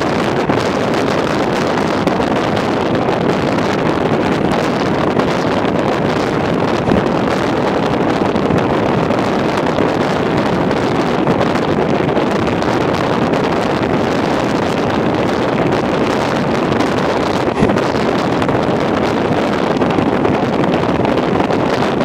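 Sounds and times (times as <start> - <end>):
train running noise: 0.0 - 11.6, 12.3 - 22.0
wind rushing over microphone: 0.0 - 22.0.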